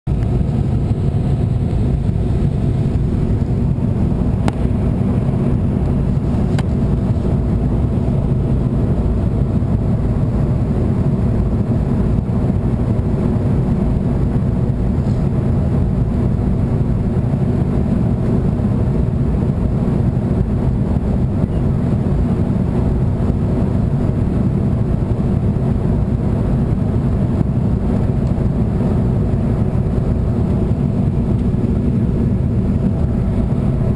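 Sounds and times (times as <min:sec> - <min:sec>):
airliner cabin drone: 0:00.1 - 0:33.9.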